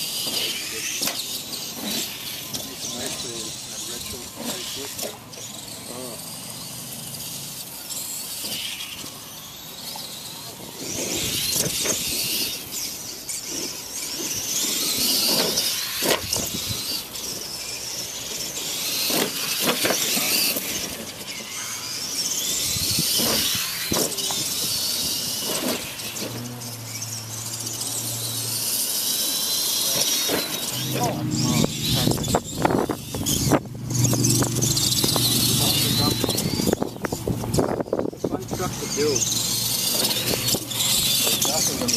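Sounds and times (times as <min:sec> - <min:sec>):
electric motors whining: 0:00.0 - 0:41.9.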